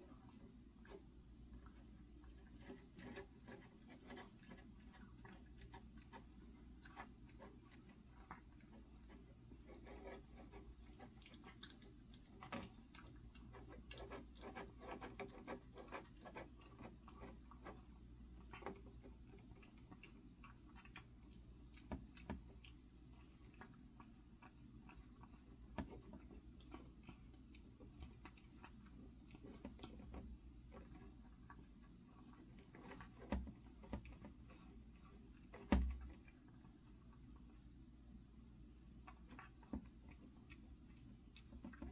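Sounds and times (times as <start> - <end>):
cat eating: 0.0 - 41.9
low room hum: 0.0 - 41.9.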